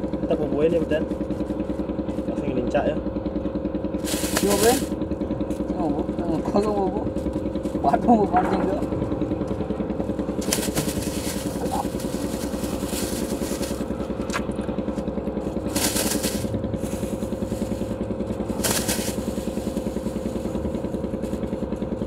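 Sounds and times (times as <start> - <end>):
engine running with pulsing beat: 0.0 - 22.0.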